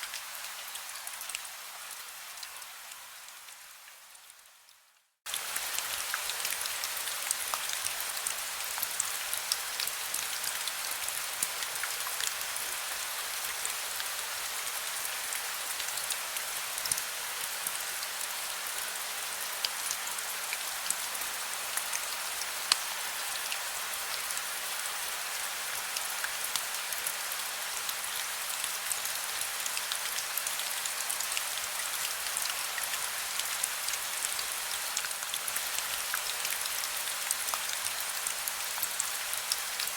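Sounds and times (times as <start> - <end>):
raindrops ticking on surface: 0.1 - 39.9.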